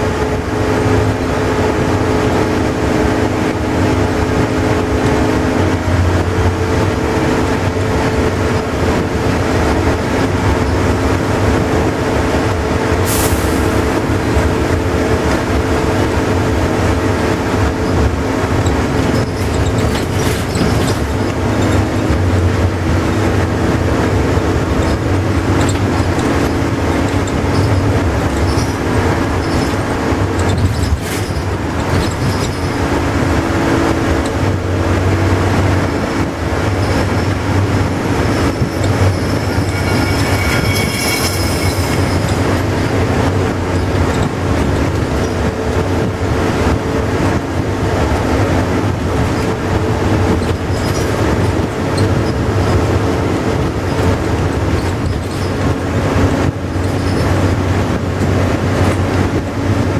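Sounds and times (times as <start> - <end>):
bus engine drone: 0.0 - 59.9
road and tyre noise: 0.0 - 59.9.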